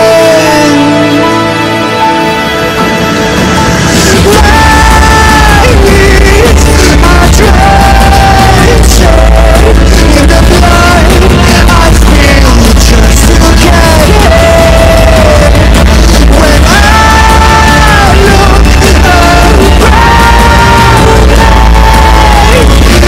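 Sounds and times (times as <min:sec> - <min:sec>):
person singing: 0:00.0 - 0:02.7, 0:03.7 - 0:23.0
band with heavy bass: 0:00.0 - 0:23.0.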